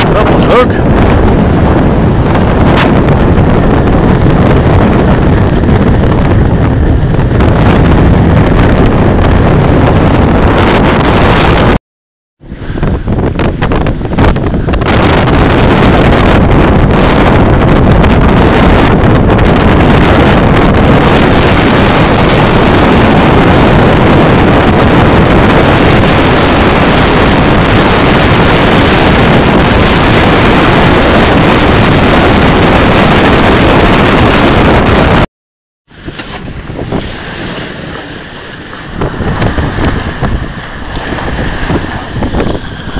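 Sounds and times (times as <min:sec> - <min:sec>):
waves rushing along hull: 0:00.0 - 0:11.8, 0:12.4 - 0:35.3, 0:35.9 - 0:42.9
wind noise on microphone: 0:00.0 - 0:11.8, 0:12.4 - 0:42.9.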